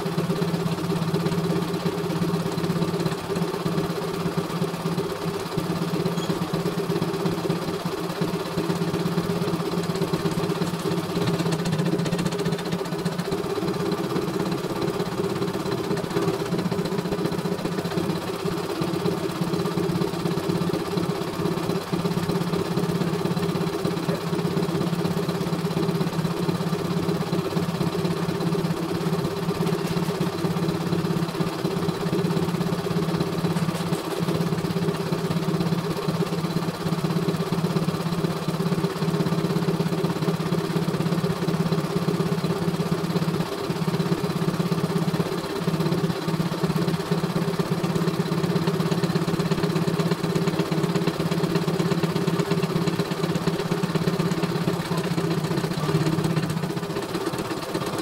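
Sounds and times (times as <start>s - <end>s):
embroidery machine running: 0.0s - 58.0s.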